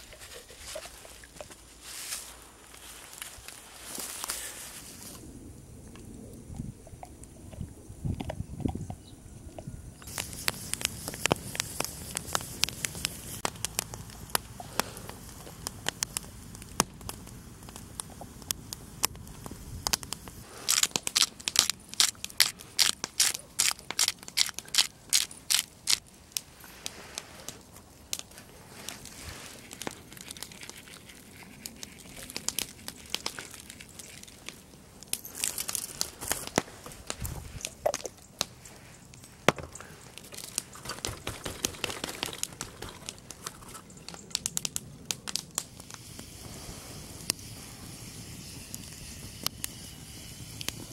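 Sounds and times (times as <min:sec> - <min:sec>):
campfire crackling and popping: 0:10.0 - 0:50.9.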